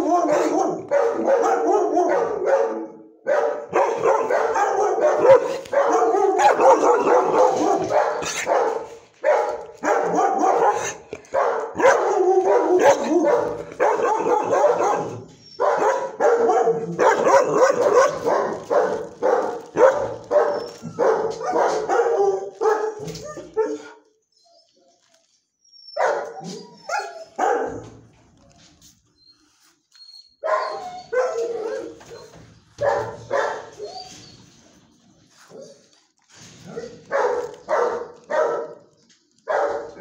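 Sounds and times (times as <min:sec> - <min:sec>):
dog barking: 0:00.0 - 0:24.0, 0:26.0 - 0:28.0, 0:30.4 - 0:34.0, 0:36.6 - 0:40.0.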